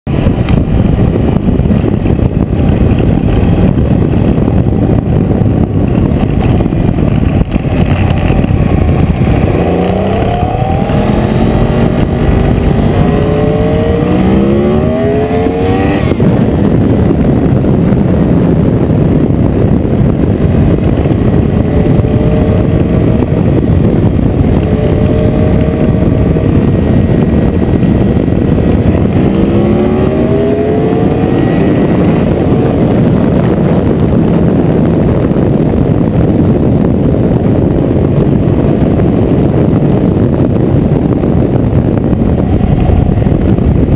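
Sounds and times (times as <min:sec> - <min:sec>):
motorcycle engine accelerating: 0:00.1 - 0:43.9.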